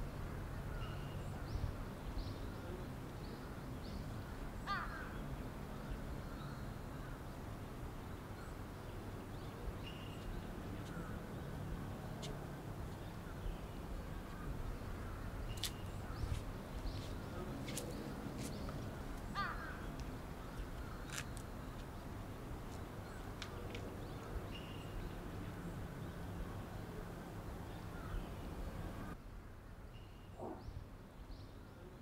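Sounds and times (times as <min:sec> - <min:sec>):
birds calling: 0:00.6 - 0:07.3, 0:08.1 - 0:26.4, 0:27.6 - 0:29.2.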